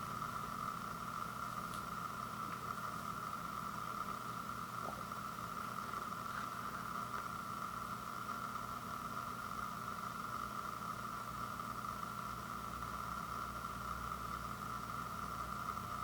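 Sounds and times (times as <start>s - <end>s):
steady background hum and hiss: 0.0s - 16.0s.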